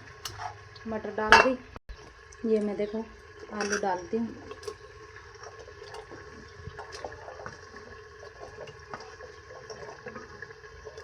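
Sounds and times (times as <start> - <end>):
curry boiling in a pot: 0.0 - 11.0.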